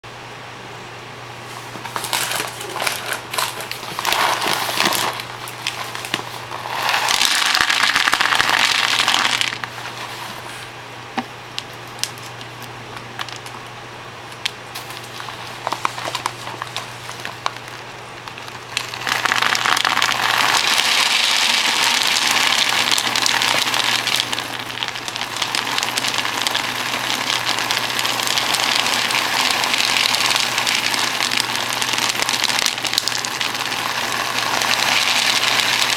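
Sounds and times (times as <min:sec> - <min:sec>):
dry kibble pouring and rattling: 0:01.6 - 0:10.4, 0:14.8 - 0:35.9.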